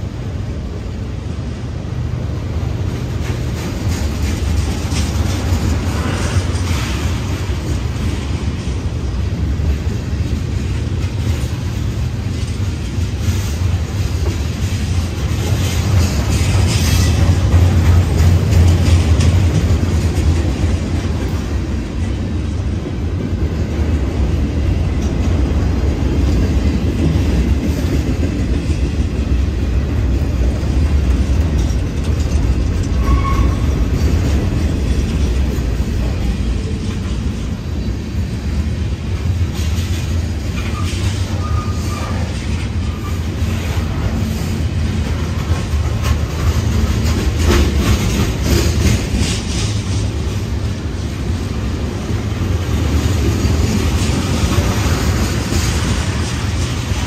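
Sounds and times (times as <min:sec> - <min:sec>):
freight train wheels rumbling on rail: 0:00.0 - 0:57.0
wheels clacking on track: 0:00.0 - 0:57.0.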